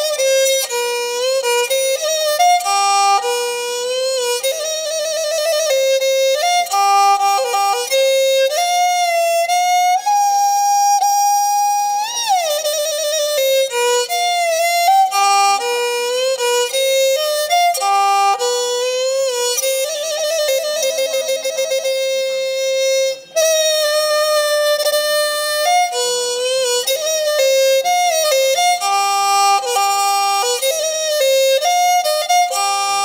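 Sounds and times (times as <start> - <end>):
slow solo instrument melody: 0.0 - 33.0.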